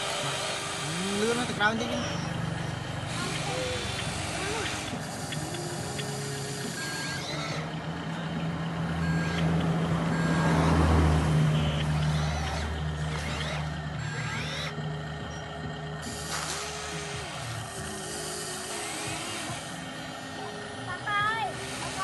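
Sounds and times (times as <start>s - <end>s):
rising motor whines: 0.0s - 22.0s
toy truck engine drone: 0.0s - 22.0s.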